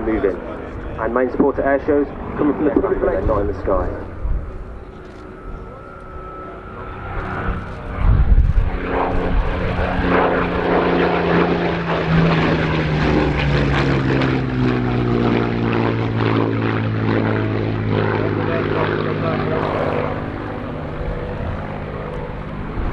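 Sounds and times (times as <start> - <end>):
propeller plane engine passing: 0.0 - 22.9.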